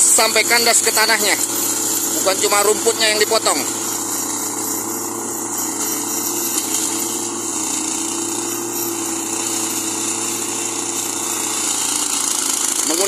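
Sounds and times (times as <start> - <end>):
blades scraping soil: 0.0 - 13.0
small petrol engine running: 0.0 - 13.0.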